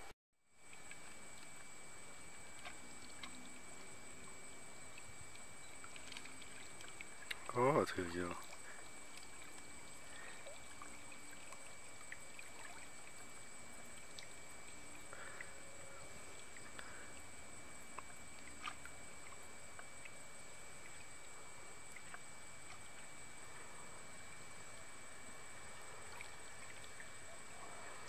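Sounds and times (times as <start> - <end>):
faint steady hiss: 0.0 - 28.0
water trickling and dripping: 0.6 - 28.0.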